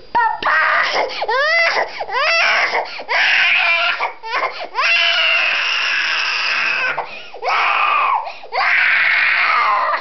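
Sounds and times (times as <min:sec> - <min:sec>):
toddler crying and wailing: 0:00.2 - 0:10.0.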